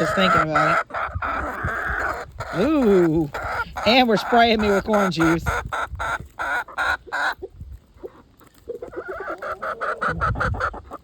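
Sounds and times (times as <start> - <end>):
chickens clucking: 0.0 - 11.0
chickens pecking at corn: 0.0 - 11.0.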